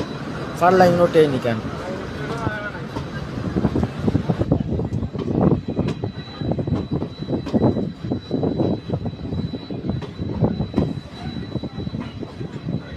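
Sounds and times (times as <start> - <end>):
faint high whine: 0.0 - 12.9
train rumbling on rails: 0.0 - 12.9.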